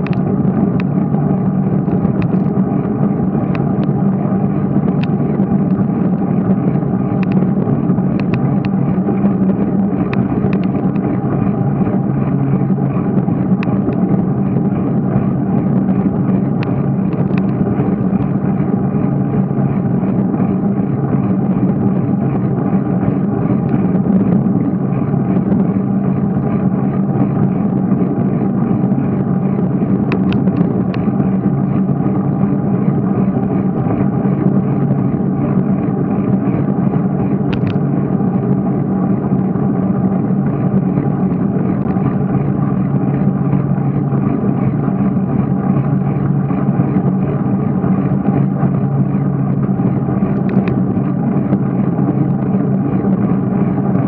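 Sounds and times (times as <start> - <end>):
bicycle rolling noise: 0.0 - 54.0
wind on microphone: 0.0 - 54.0.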